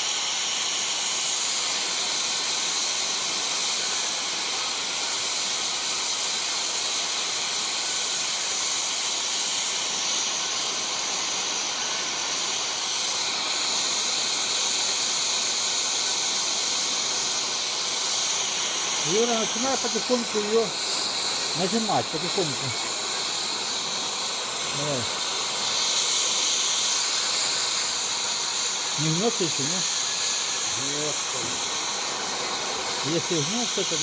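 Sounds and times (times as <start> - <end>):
gas torch flame hissing: 0.0 - 34.0.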